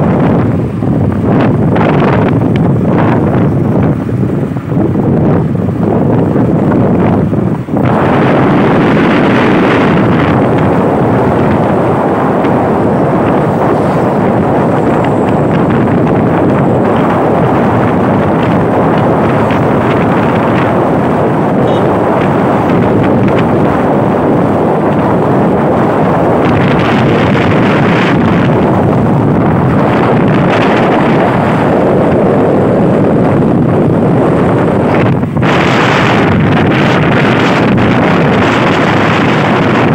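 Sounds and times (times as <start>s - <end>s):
motorbike engine and road noise: 0.0s - 39.9s
wind rushing over microphone: 0.0s - 39.9s.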